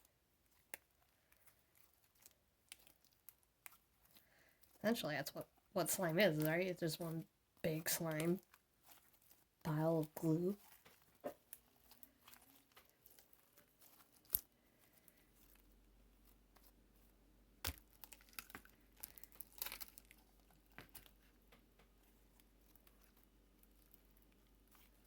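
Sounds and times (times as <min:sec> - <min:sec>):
sticky slime crackles and pops: 0:00.4 - 0:25.0.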